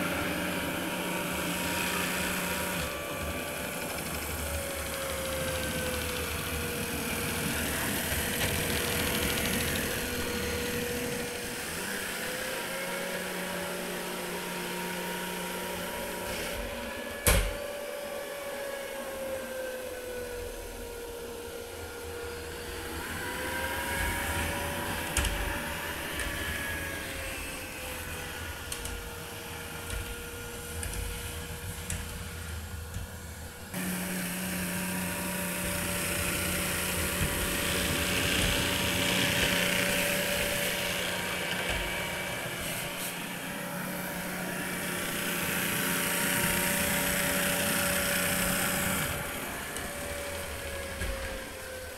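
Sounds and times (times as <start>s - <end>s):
cordless vacuum cleaner running: 0.0s - 51.9s.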